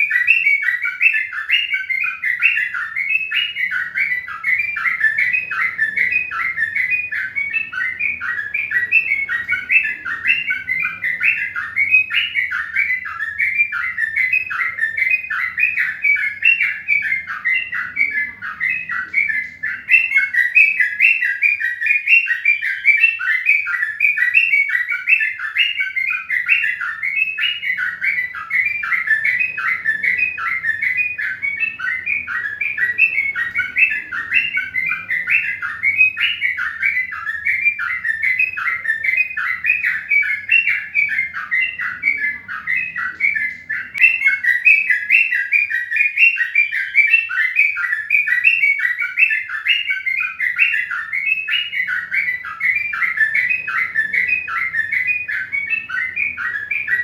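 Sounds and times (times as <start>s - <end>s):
many birds chirping: 0.0s - 57.0s.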